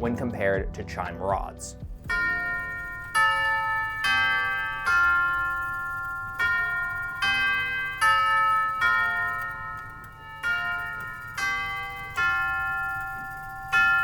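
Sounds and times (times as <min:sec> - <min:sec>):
clock tubular chimes melody: 0:02.1 - 0:14.0.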